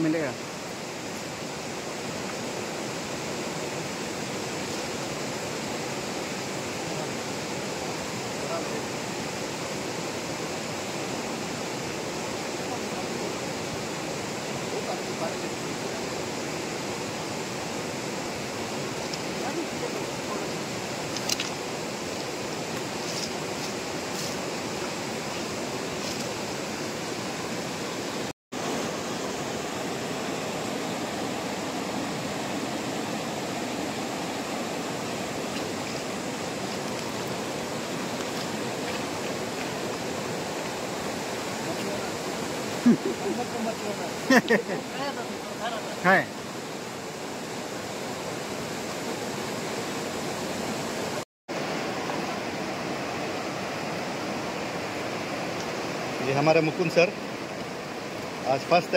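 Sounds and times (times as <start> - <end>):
river rushing over rocks: 0.0 - 58.9.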